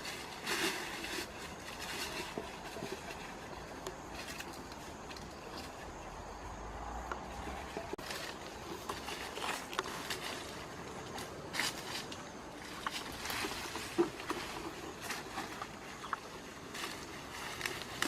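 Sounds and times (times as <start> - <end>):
rustling with light crackles: 0.0 - 6.5, 7.2 - 18.0.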